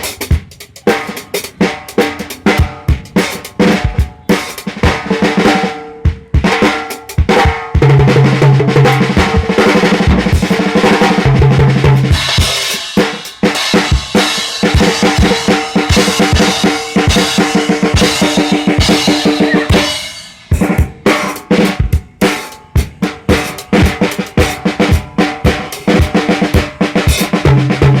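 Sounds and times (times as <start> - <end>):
acoustic drum kit playing fast: 0.0 - 28.0.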